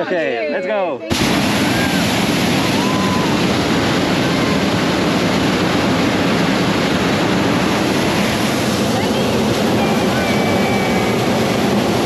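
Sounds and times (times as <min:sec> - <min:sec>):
propane burner firing: 0:01.1 - 0:12.0.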